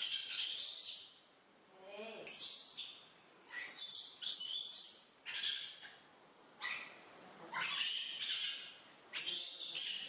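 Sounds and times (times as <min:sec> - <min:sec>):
baby monkeys squealing: 0:00.0 - 0:01.2, 0:02.2 - 0:06.0, 0:06.6 - 0:10.0.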